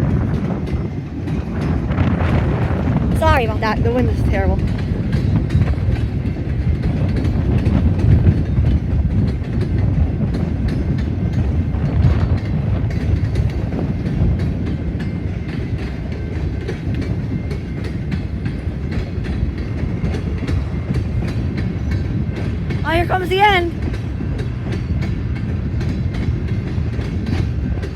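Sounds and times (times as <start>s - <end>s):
train cars rumbling by: 0.0s - 27.9s
wind buffeting microphone: 0.0s - 27.9s.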